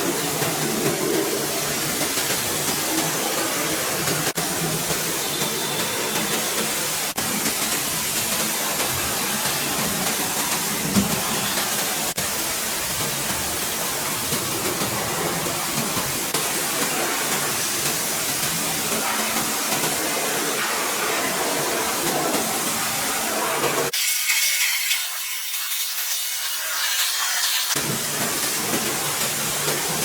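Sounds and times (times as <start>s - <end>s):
hissing cleaning spray: 0.0s - 30.0s.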